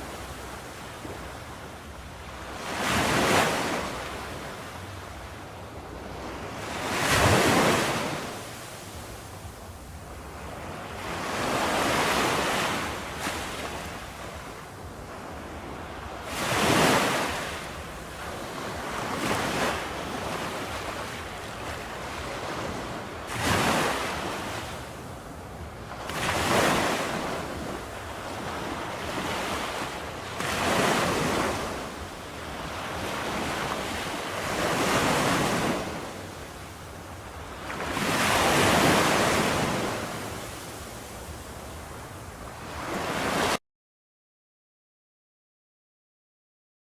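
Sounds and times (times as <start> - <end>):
ocean waves breaking on shore: 0.0 - 43.6.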